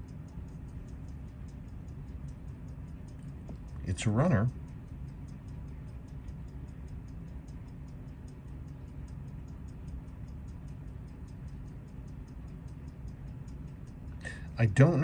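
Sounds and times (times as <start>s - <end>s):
pocket watch ticking: 0.0s - 15.0s.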